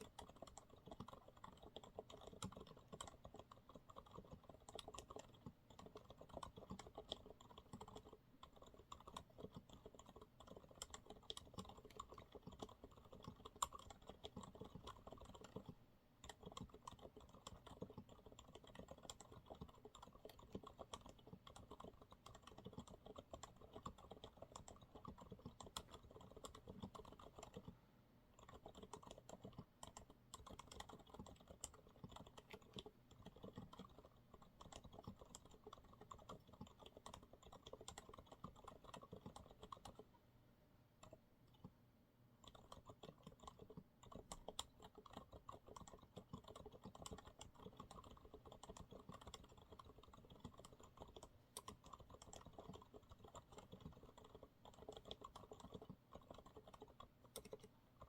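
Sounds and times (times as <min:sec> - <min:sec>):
soft mechanical keyboard typing: 0:00.0 - 0:40.2, 0:41.0 - 0:41.8, 0:42.4 - 0:58.0.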